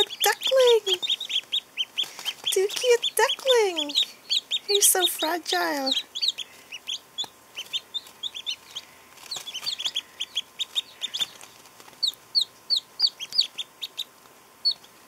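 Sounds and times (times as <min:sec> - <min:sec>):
chicks and ducklings peeping: 0:00.0 - 0:15.0.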